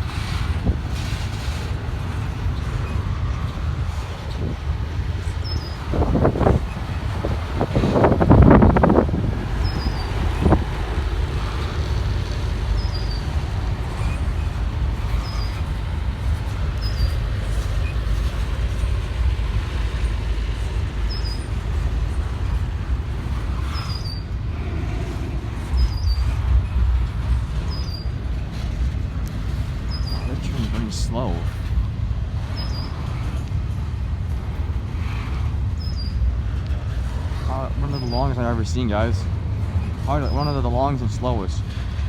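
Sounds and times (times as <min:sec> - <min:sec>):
freight train rumbling on track: 0:00.0 - 0:42.0
railcar clank: 0:00.0 - 0:42.0.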